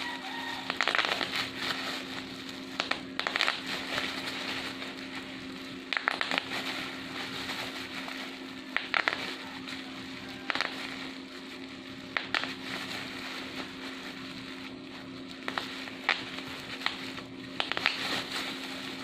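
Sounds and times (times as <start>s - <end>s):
bubble wrap crinkling: 0.0s - 19.0s
bubble wrap popping: 0.0s - 19.0s.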